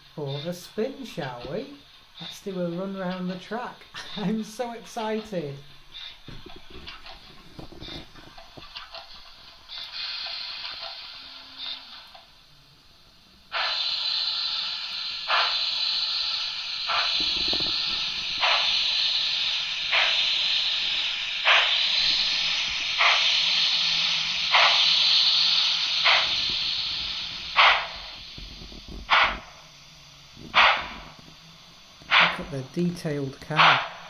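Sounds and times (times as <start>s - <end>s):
model steam locomotive chuffing: 0.0s - 34.0s.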